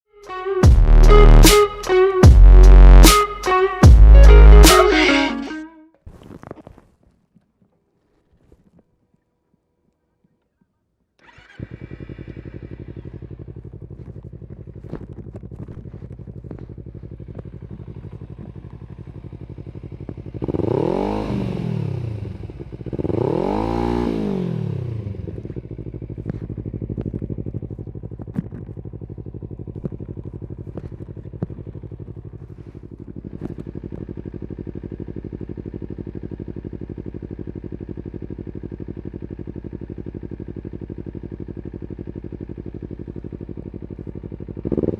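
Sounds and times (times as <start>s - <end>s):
motorcycle engine idling and revving: 0.0s - 5.2s, 11.2s - 44.9s.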